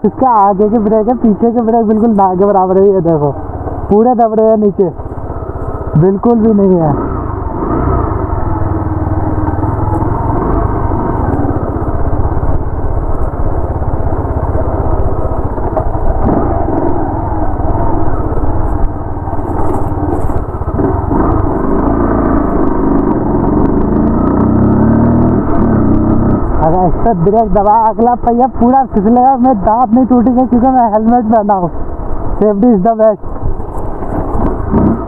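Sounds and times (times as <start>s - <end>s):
motorcycle engine running: 0.0s - 35.0s
road noise: 0.0s - 35.0s
rushing wind: 0.0s - 35.0s.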